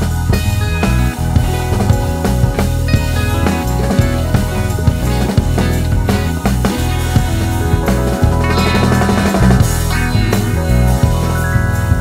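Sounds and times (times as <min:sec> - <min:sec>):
rock music with drums: 0:00.0 - 0:12.0.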